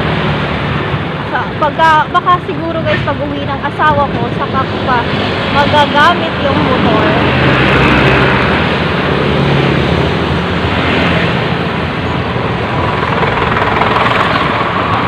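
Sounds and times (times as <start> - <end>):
highway traffic: 0.0 - 15.0
passing vehicle engine hum: 0.0 - 15.0
wind rushing: 0.0 - 15.0.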